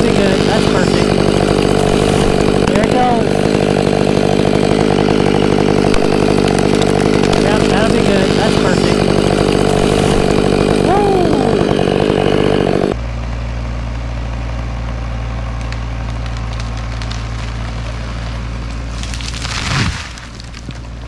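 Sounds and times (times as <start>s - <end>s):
chainsaw cutting wood: 0.0s - 13.0s, 15.5s - 21.0s.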